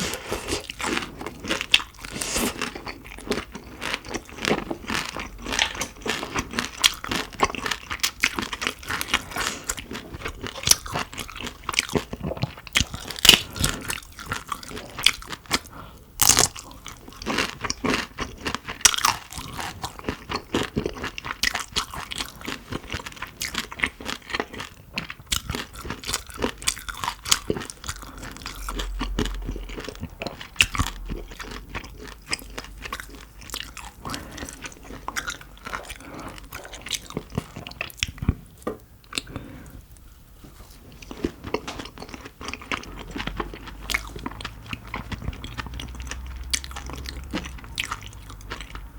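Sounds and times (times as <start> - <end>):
chewing crunchy shrimp: 0.0 - 39.8, 40.9 - 48.9.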